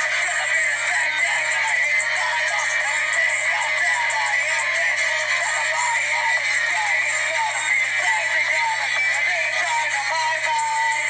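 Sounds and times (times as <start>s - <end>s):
electronic music track: 0.0s - 11.0s
electronically treated voice: 0.0s - 11.0s.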